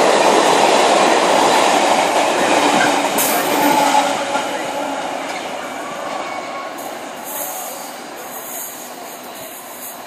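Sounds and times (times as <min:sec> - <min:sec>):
freight train on rails: 0:00.0 - 0:10.0.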